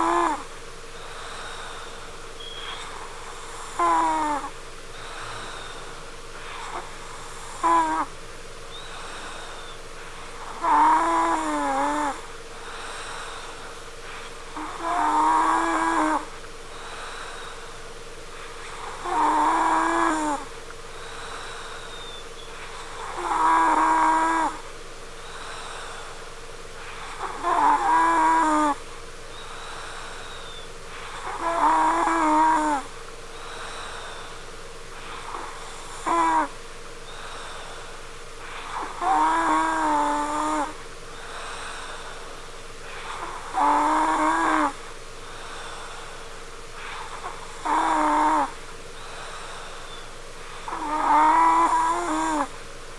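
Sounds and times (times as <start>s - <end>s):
person snoring with whining tone: 0.0s - 17.8s, 18.4s - 52.6s.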